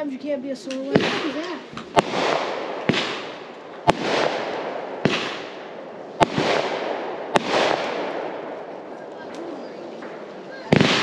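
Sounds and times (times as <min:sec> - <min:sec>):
fireworks bangs: 0:00.6 - 0:11.0.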